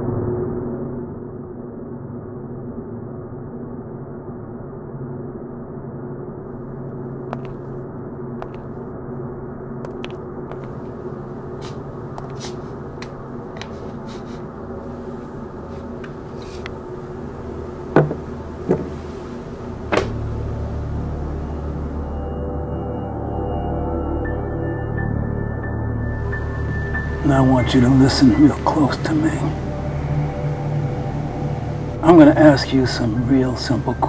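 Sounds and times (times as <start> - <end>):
dark droning soundtrack music: 0.0 - 34.0.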